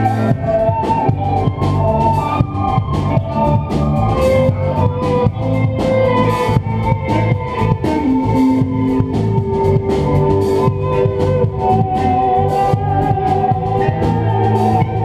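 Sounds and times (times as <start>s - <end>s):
drum kit: 0.0s - 15.0s
electric guitar lines: 0.0s - 15.0s
low bass notes: 0.0s - 15.0s.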